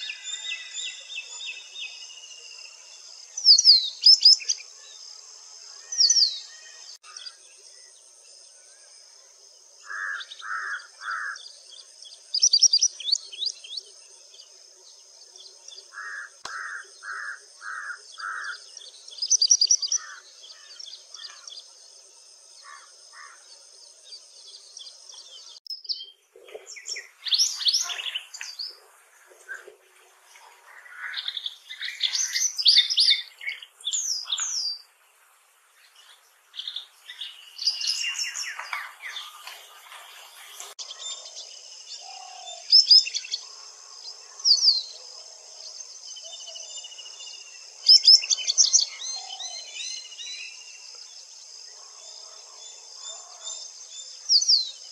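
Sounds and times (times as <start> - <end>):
bird song: 0.0 - 54.9.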